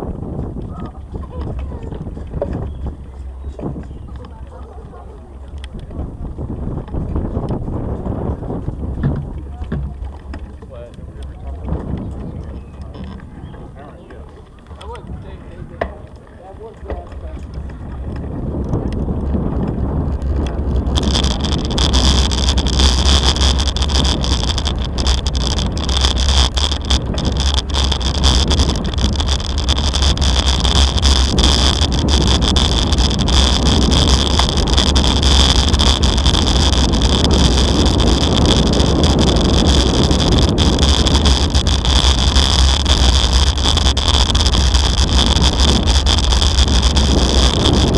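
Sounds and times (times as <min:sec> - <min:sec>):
bicycle rolling over cobblestones: 0:00.0 - 0:47.9
wind buffeting microphone: 0:00.0 - 0:47.9.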